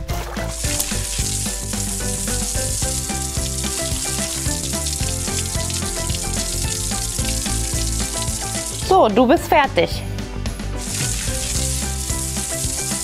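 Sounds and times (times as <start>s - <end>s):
background music with quick notes: 0.0s - 13.0s
hose spraying water: 0.3s - 9.0s, 10.8s - 13.0s.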